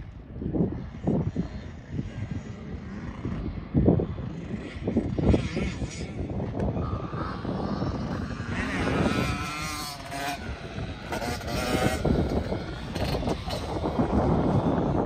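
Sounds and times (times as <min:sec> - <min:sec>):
wind rumble on microphone: 0:00.0 - 0:15.0
dirt bike engine revving: 0:00.6 - 0:15.0.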